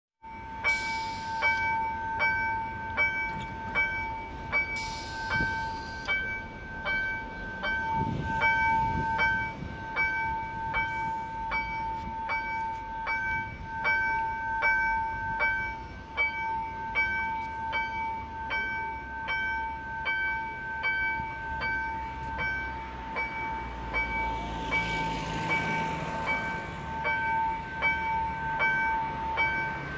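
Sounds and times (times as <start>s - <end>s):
level crossing warning bell: 0.2s - 29.9s.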